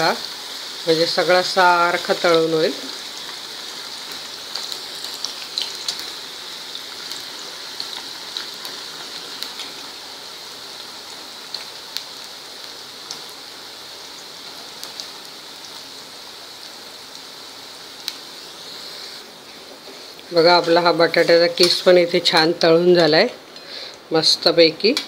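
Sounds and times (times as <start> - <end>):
potato deep-frying in oil: 0.0 - 25.0.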